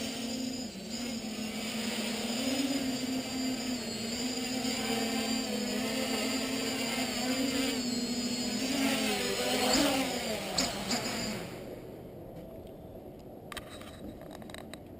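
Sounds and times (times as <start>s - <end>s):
quadcopter motors buzzing: 0.0s - 12.0s.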